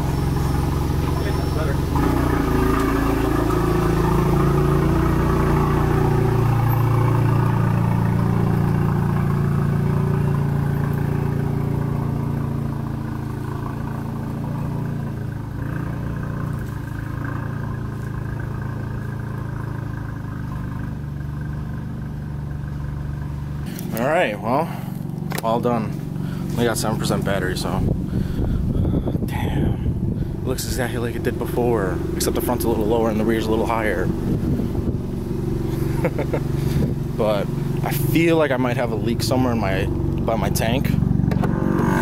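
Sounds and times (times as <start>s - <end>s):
car engine running at low revs: 0.0s - 42.0s.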